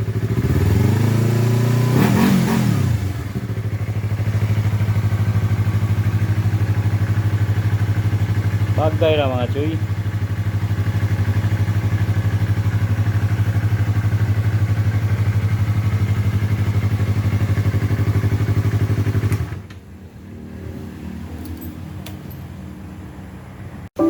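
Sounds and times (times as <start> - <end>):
motorcycle engine idling: 0.0 - 1.9, 2.9 - 20.3.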